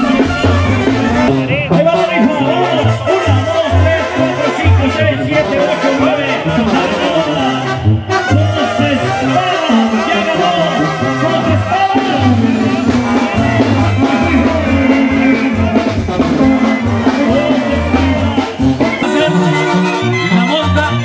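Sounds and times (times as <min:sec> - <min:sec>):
latin music with singer: 0:00.0 - 0:21.0
pulsing bass line: 0:00.0 - 0:21.0.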